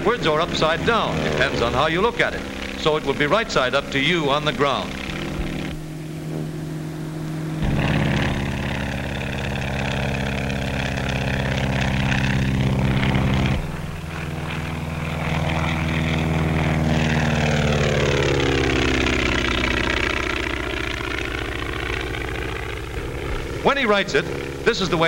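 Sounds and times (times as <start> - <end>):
propeller plane engine droning: 0.0 - 25.0.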